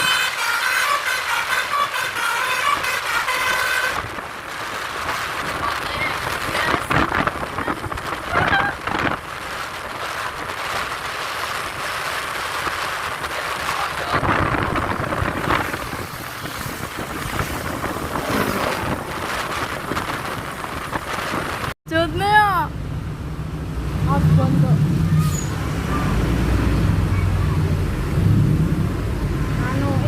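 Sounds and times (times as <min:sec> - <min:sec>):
road traffic noise: 0:00.0 - 0:30.0
wind buffeting microphone: 0:01.7 - 0:30.0
low rumble: 0:04.0 - 0:30.0.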